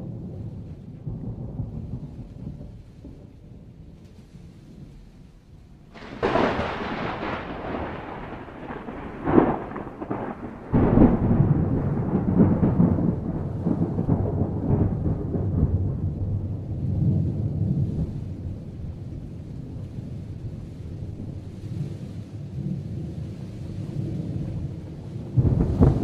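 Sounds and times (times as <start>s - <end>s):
thunder crack: 0.0s - 23.2s, 23.8s - 26.0s
deep rolling thunder rumble: 0.0s - 26.0s.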